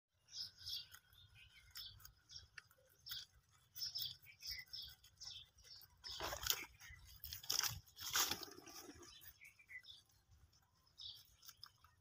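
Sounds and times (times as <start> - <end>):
rabbits chewing grass: 0.1 - 12.0.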